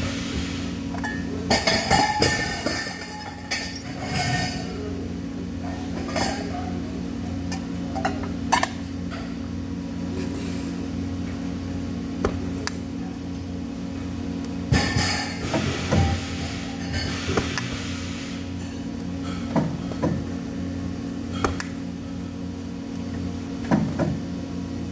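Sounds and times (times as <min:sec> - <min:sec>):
mechanical hum: 0:00.0 - 0:24.9.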